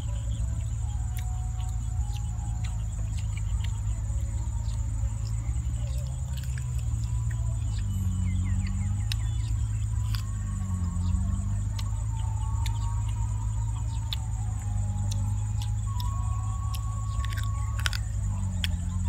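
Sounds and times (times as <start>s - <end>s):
high-pitched whine: 0.0s - 19.0s
low rumble: 0.0s - 19.0s
person chewing: 0.8s - 3.8s, 4.5s - 7.9s, 8.9s - 10.9s, 11.7s - 19.0s.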